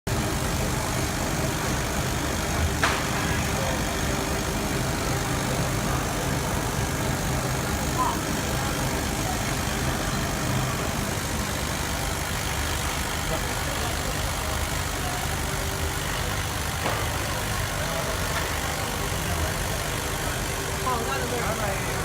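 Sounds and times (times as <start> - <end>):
laser cutter hum and hiss: 0.1 - 22.0.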